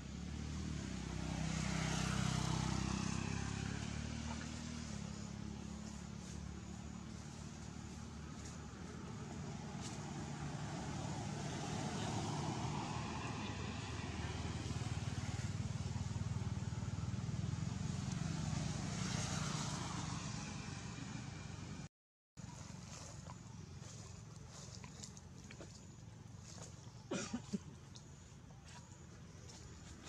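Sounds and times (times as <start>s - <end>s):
motor vehicle passing: 0.0s - 30.0s.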